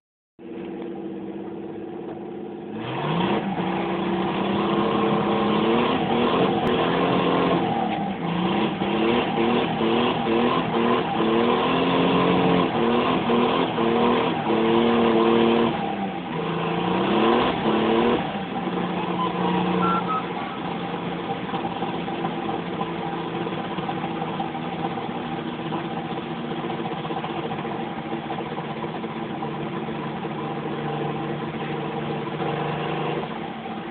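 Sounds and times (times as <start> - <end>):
car engine running: 0.4 - 11.3, 11.9 - 33.9.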